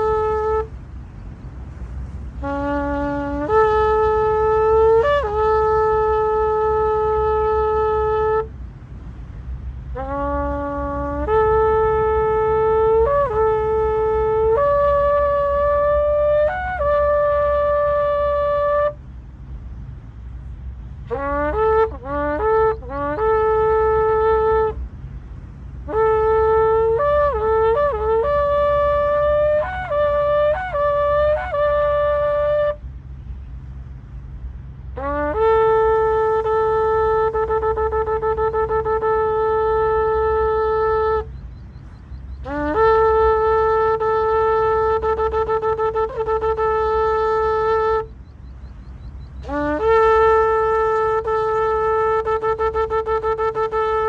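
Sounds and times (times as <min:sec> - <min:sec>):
shofar blowing: 0:00.0 - 0:00.8, 0:02.0 - 0:08.5, 0:09.9 - 0:19.0, 0:21.0 - 0:24.8, 0:25.8 - 0:32.8, 0:34.9 - 0:41.4, 0:42.4 - 0:48.2, 0:49.4 - 0:54.0.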